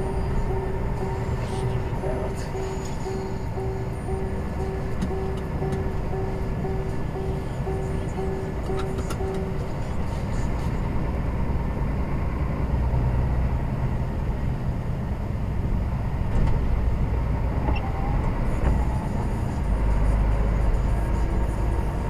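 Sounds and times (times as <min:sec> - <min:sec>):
lorry engine and road noise: 0:00.0 - 0:22.0.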